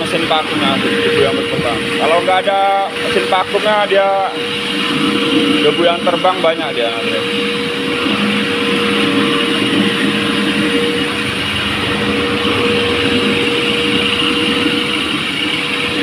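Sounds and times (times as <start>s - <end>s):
concrete floor grinder humming: 0.0s - 16.0s.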